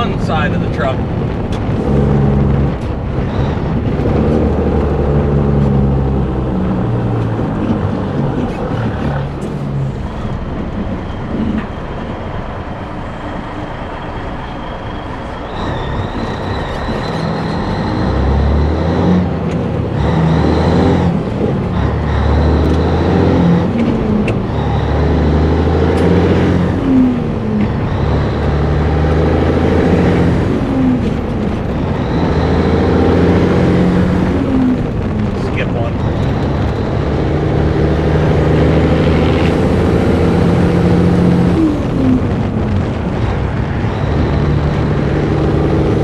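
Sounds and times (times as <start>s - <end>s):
diesel truck engine under load: 0.0s - 46.0s.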